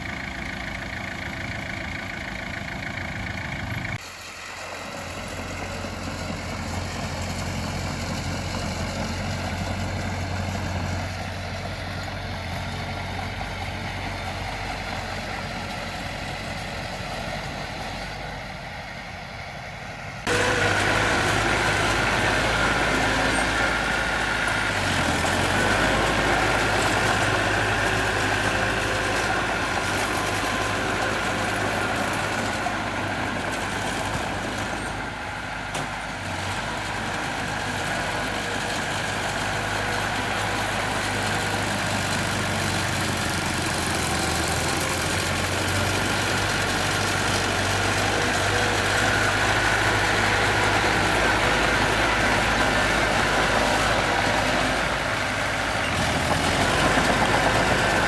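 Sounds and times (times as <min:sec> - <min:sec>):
construction machine engine running: 0:00.0 - 0:58.0.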